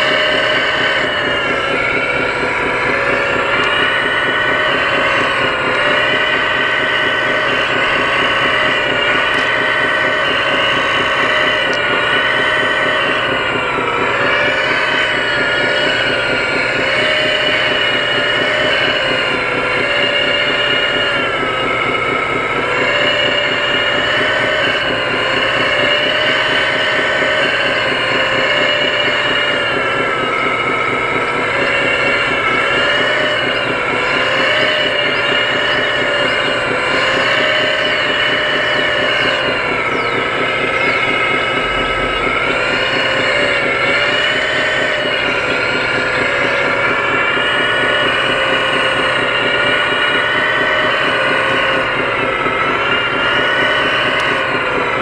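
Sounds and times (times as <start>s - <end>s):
fast even rattle: 0.0s - 55.0s
toy excavator mechanical whine: 0.0s - 55.0s.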